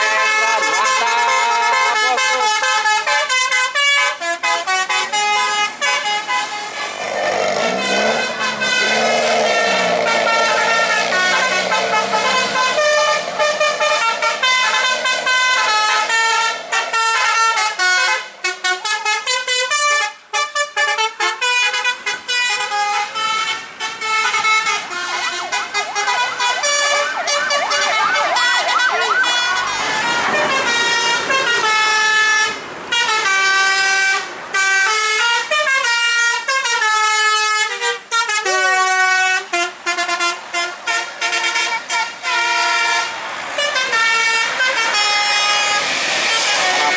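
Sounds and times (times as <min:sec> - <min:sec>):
musical air horn melody: 0:00.0 - 0:46.9.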